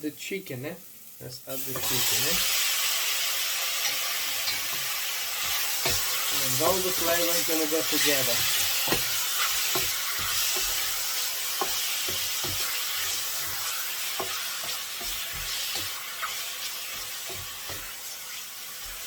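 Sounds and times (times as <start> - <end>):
chicken wings sizzling in oil: 0.9 - 19.0.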